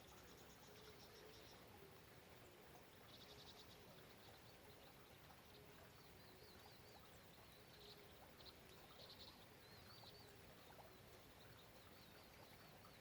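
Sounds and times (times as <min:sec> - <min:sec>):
soft rain hiss: 0:00.0 - 0:13.0.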